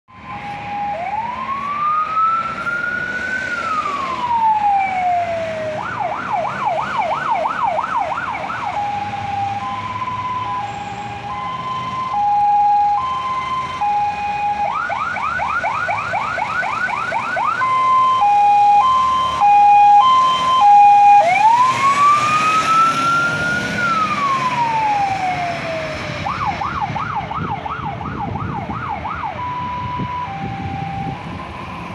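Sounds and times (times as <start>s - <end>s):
fire engine siren wailing and yelping: 0.1s - 31.9s.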